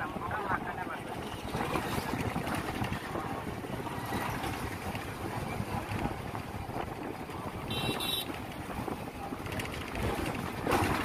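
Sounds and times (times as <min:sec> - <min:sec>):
vehicle road noise: 0:00.0 - 0:11.0
wind on microphone: 0:00.0 - 0:11.0.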